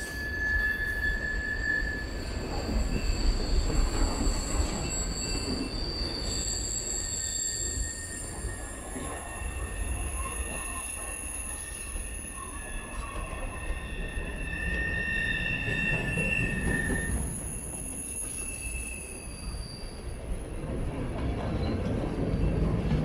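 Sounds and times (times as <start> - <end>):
wheel flange squeal: 0.0 - 20.2
rumble of wheels on rail: 0.0 - 23.0.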